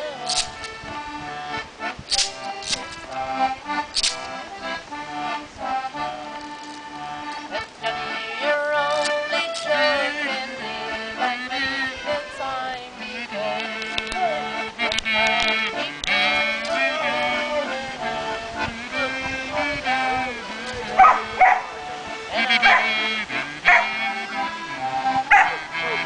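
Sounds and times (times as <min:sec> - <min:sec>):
accordion music: 0:00.0 - 0:26.0.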